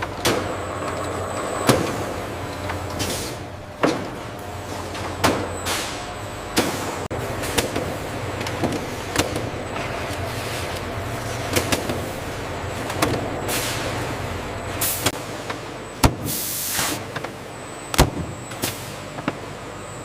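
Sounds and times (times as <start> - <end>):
factory machinery humming: 0.0 - 20.0.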